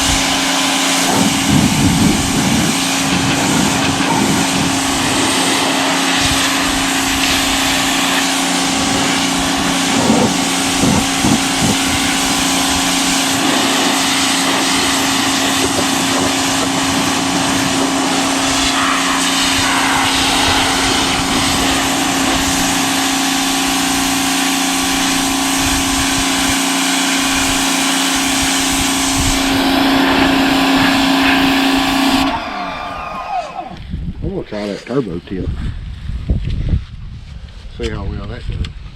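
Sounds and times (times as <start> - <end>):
water spray hissing: 0.0 - 33.8
pressure washer motor humming: 0.0 - 33.9.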